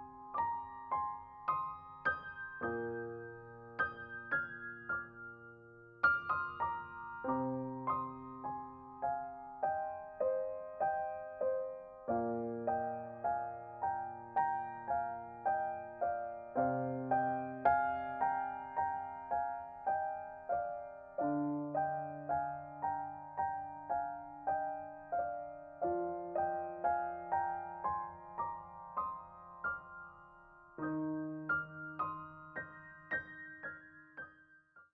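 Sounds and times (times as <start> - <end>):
gentle piano melody: 0.0 - 34.9.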